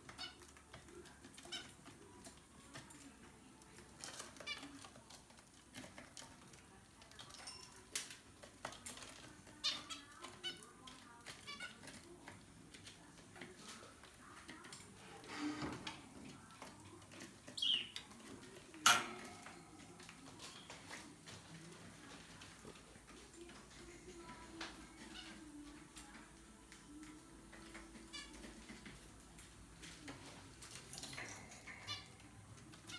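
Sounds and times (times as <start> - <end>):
birds chirping and calling: 0.0 - 3.0, 7.4 - 32.9.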